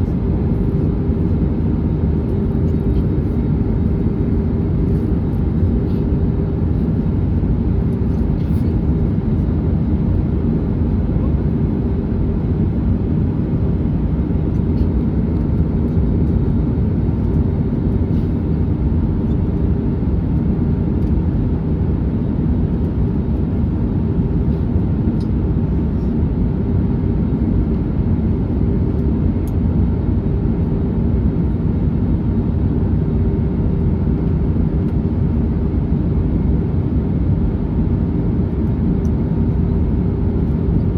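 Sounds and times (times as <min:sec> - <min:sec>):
airplane cabin noise: 0:00.0 - 0:40.9.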